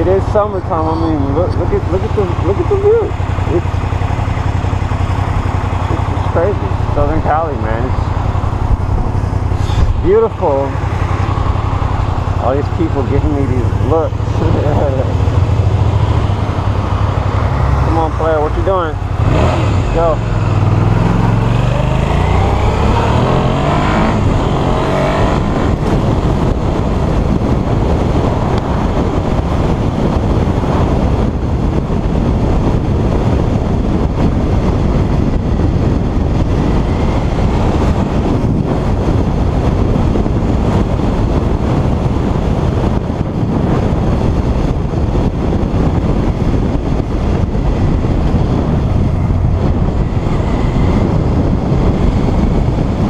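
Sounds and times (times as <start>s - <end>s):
motorcycle engine accelerating: 0.0s - 53.0s
wind rush on microphone: 0.0s - 53.0s.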